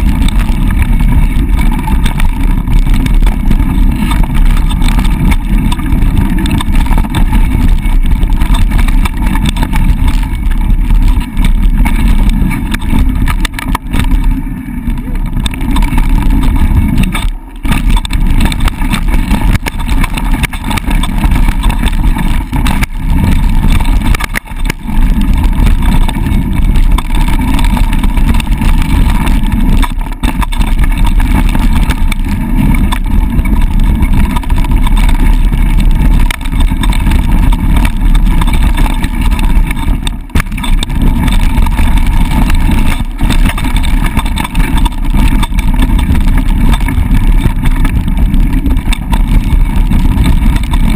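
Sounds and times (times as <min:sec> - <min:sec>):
tyres rumbling on dirt: 0:00.0 - 0:50.9
wind rushing over camera: 0:00.0 - 0:50.9.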